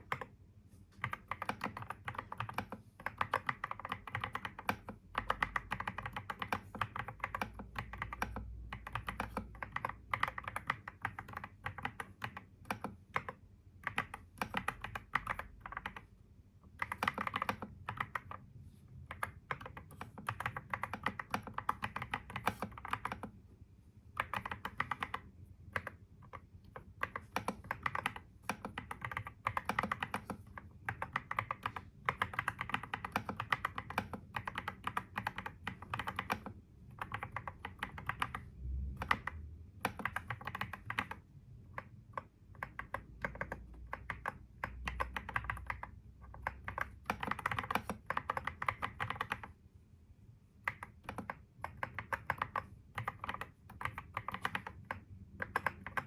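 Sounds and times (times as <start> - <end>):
typing on computer keyboard: 0.0 - 0.4, 1.0 - 23.4, 24.1 - 49.6, 50.6 - 56.0.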